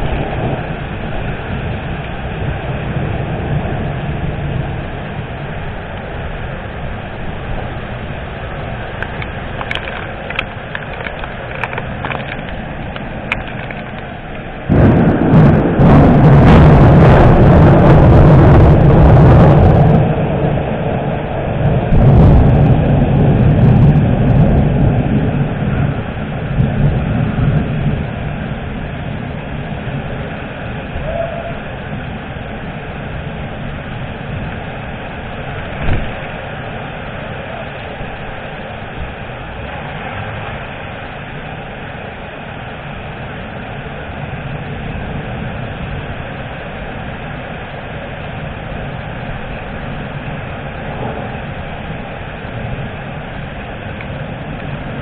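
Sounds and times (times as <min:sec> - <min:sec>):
steady rain hiss: 0:00.0 - 0:55.0
thunder crack and rumble: 0:00.0 - 0:55.0.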